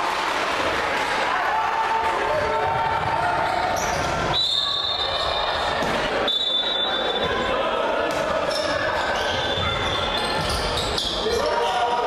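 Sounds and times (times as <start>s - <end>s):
murmur of crowd and voices: 0.0s - 12.0s.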